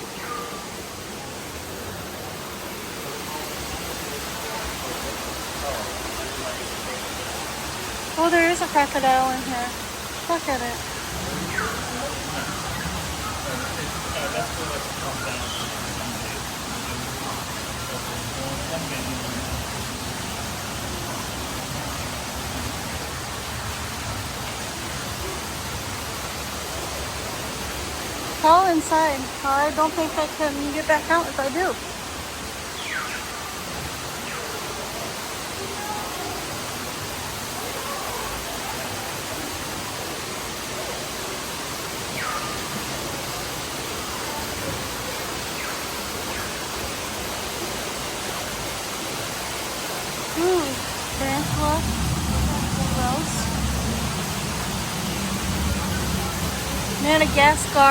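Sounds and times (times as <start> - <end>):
rush of falling water: 0.0 - 57.9.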